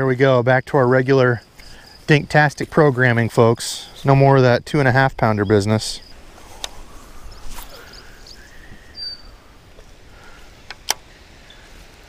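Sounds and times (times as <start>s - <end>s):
bird chirping: 0.0s - 10.4s.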